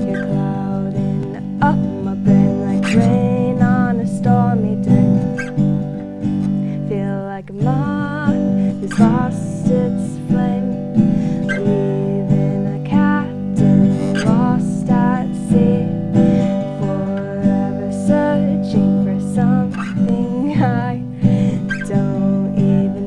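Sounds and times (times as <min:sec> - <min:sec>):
strummed acoustic guitar: 0:00.0 - 0:23.0
woman singing: 0:00.0 - 0:23.0.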